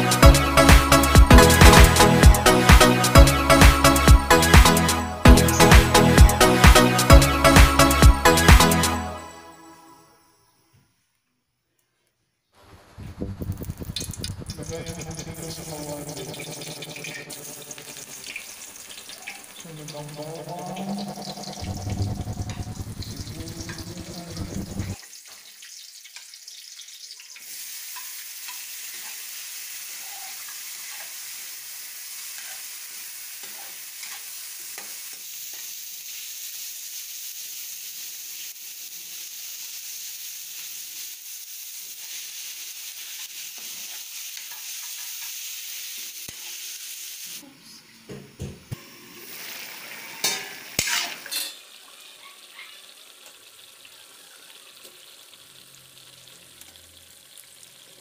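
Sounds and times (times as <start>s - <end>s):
vegetables sizzling in a wok: 0.0s - 8.8s, 12.6s - 58.0s.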